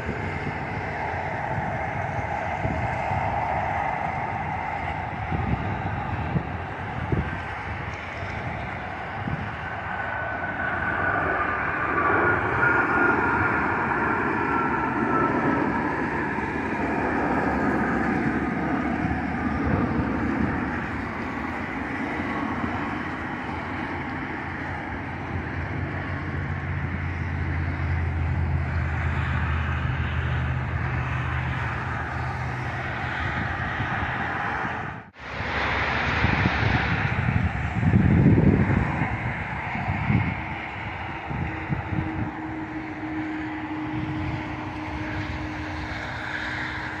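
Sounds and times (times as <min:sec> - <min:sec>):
jet airliner flying over: 0:00.0 - 0:47.0.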